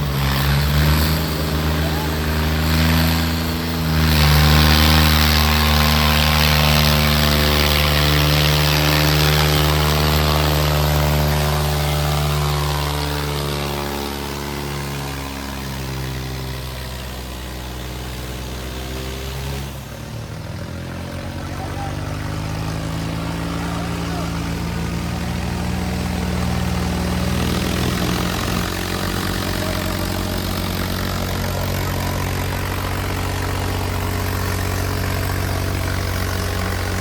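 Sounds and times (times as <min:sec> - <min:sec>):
diesel tractor engines under load: 0:00.0 - 0:37.0.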